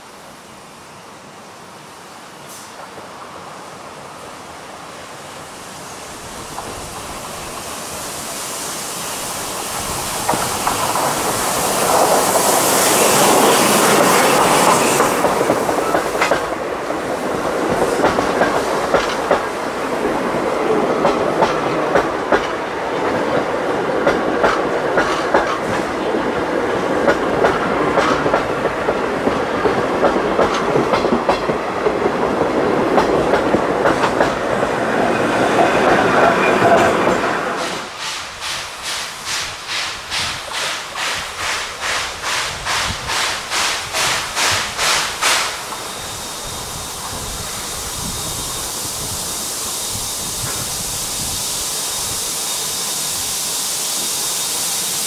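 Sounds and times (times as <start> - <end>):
electric locomotive passing: 0.0 - 55.0
steam locomotive hissing rush: 0.0 - 55.0
train wheels clicking over rail joints: 9.2 - 55.0.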